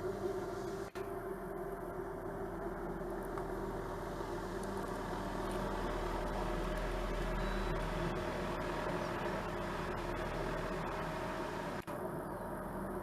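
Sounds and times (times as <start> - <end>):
helicopter engine and rotors droning: 0.0 - 13.0.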